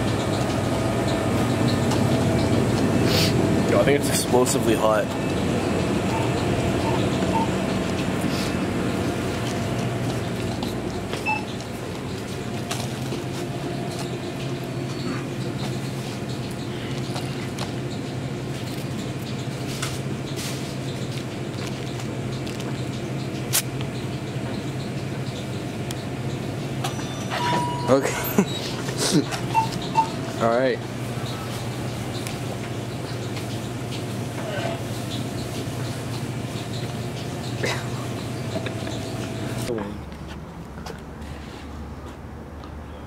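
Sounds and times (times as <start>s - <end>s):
ventilation and refrigeration hum: 0.0s - 43.0s.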